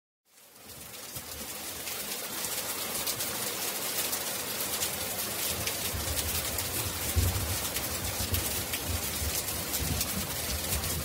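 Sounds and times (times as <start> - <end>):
rain falling on pavement: 0.3 - 11.0.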